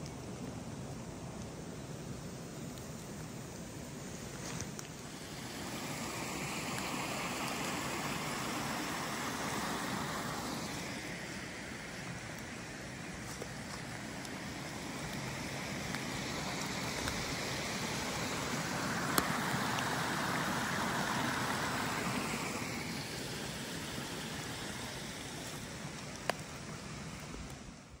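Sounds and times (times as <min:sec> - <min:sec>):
river rushing: 0:04.6 - 0:28.0.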